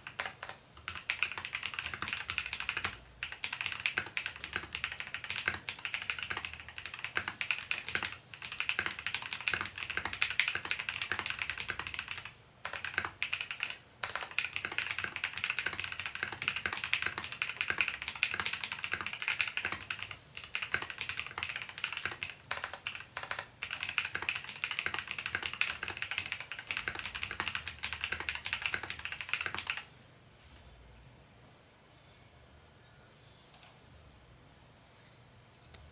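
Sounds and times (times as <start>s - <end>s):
mechanical keyboard typing: 0.0s - 29.9s.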